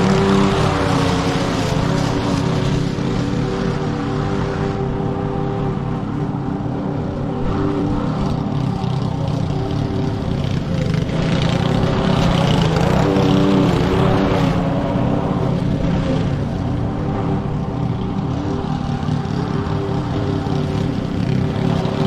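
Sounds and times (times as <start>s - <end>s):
lawn mower engine running: 0.0s - 5.0s, 7.1s - 22.0s.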